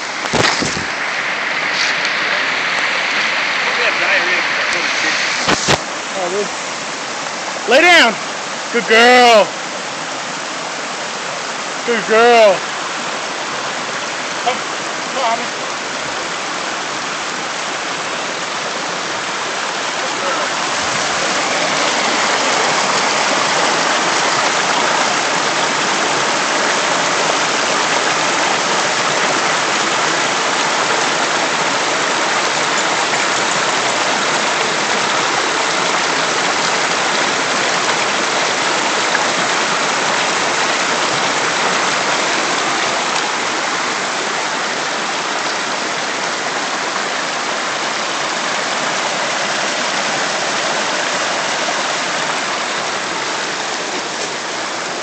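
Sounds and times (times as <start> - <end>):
creek rushing over stones: 0.0 - 55.0.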